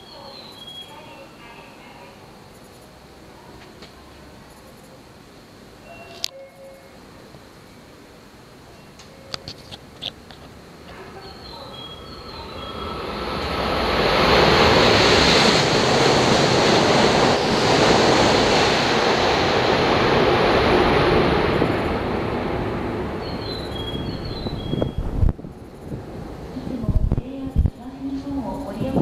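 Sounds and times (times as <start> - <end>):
high-speed train rushing past: 0.0 - 29.0.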